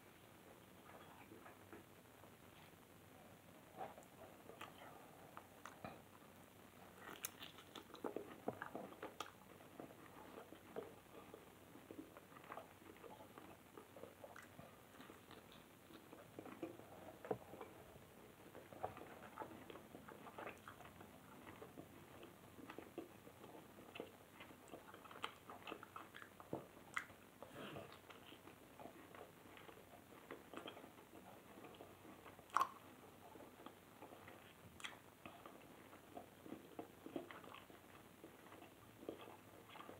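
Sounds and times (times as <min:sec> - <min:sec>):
person chewing steak: 0:06.8 - 0:39.9.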